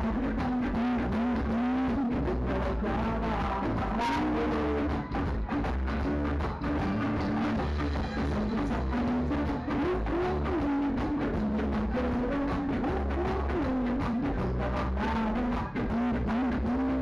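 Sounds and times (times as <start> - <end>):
drum kit beat: 0.0 - 17.0
electric bass: 0.0 - 17.0
electric guitar: 0.0 - 17.0.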